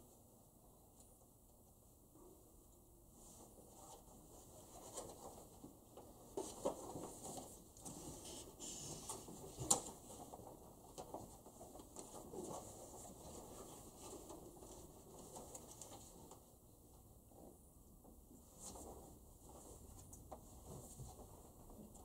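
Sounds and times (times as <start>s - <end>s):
soft rustling: 3.1s - 17.6s, 18.3s - 22.0s.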